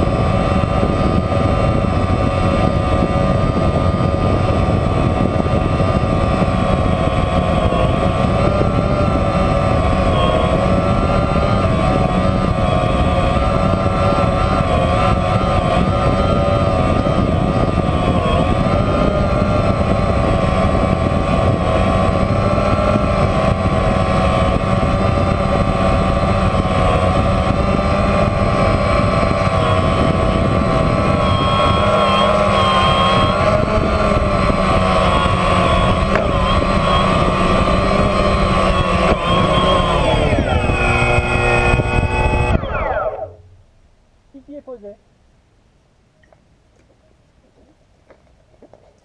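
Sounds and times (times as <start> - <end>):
drone motors buzzing: 0.0 - 43.8.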